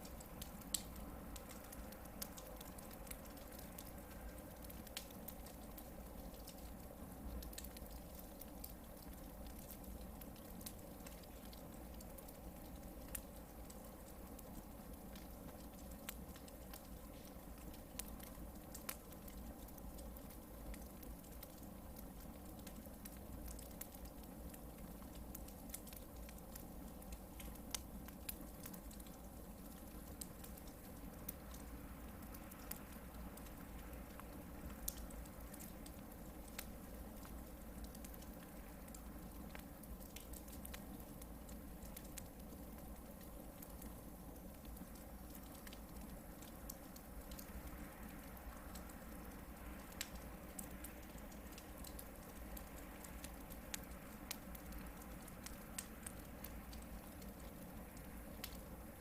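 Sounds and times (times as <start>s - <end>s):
campfire crackles and pops: 0.0s - 59.0s
faint steady fire hiss: 0.0s - 59.0s.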